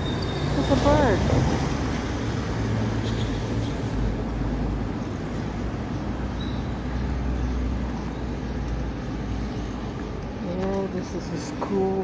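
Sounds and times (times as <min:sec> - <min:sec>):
street noise rumble: 0:00.0 - 0:12.0.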